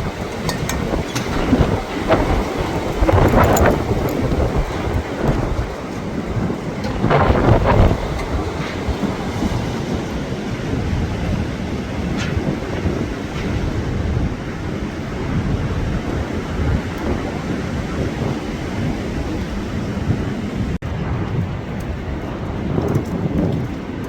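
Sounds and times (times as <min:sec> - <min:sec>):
strong wind blowing: 0:00.0 - 0:24.0
wind rumbling on microphone: 0:00.0 - 0:24.0.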